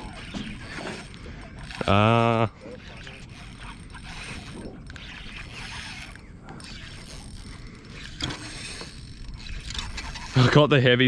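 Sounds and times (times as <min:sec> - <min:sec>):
fishing reel rattling and clicking: 0:00.0 - 0:11.0.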